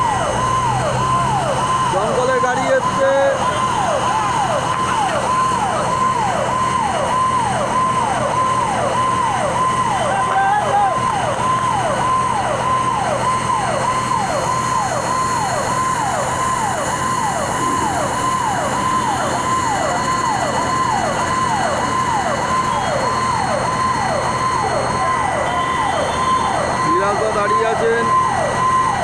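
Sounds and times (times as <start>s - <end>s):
fire engine siren: 0.0s - 29.0s.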